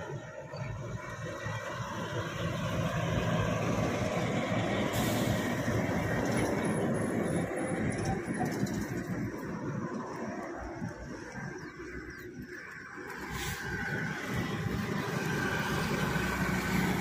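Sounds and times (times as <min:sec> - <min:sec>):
trucks driving past: 0:00.0 - 0:17.0.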